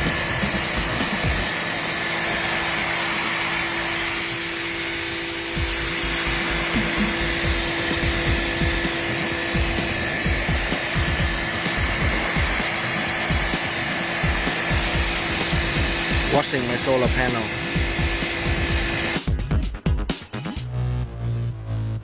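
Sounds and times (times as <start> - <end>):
pressure washer motor whine: 0.0 - 19.3.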